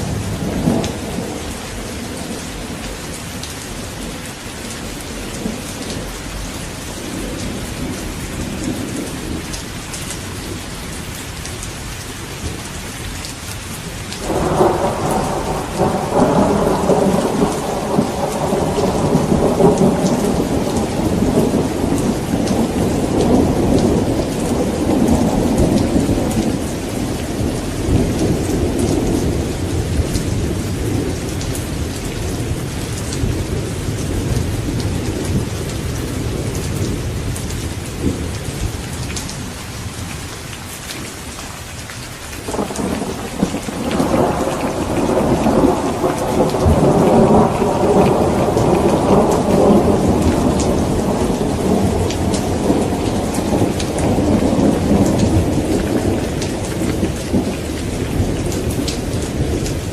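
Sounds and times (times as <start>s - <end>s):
thunder rumbling: 0.0s - 9.6s, 14.2s - 39.6s, 42.5s - 59.9s
steady rain: 0.0s - 59.9s.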